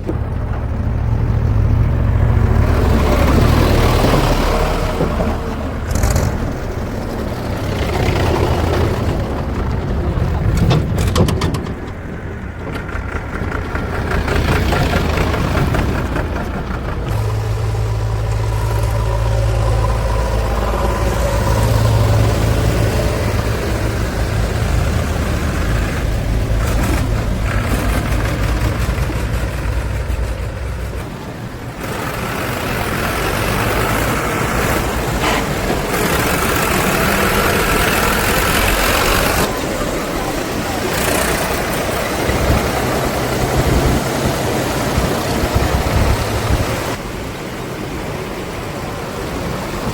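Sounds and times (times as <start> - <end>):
heavy diesel engines running: 0.0 - 49.9.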